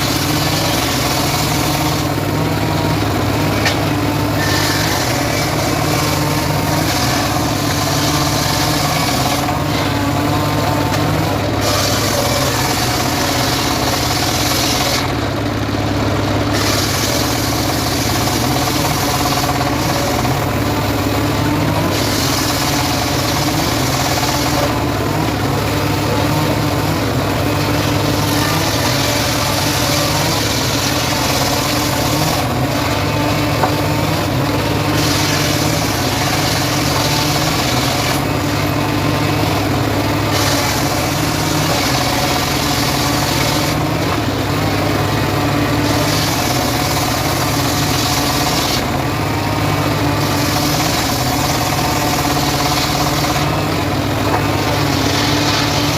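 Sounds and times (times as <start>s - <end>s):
saw hissing through wood: 0.0s - 55.9s
sawmill drive hum: 0.0s - 55.9s.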